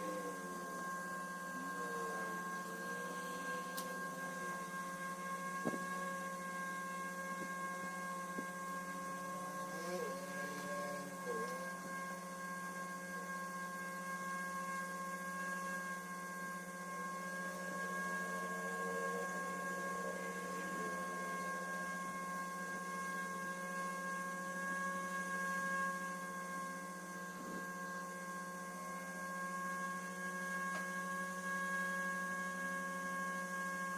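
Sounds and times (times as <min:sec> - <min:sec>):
faint wavering sounds: 0:00.0 - 0:33.9
steady hum of fixed tones: 0:00.0 - 0:33.9.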